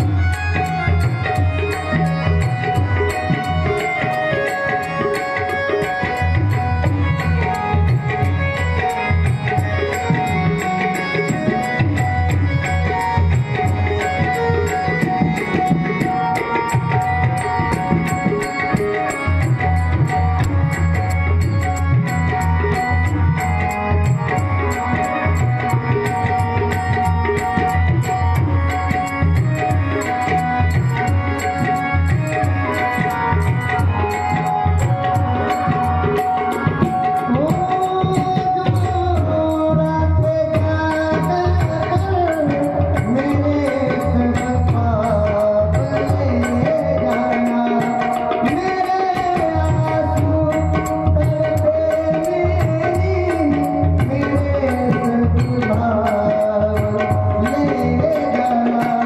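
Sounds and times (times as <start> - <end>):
sustained melody: 0.0 - 59.0
tabla strokes: 0.0 - 59.0.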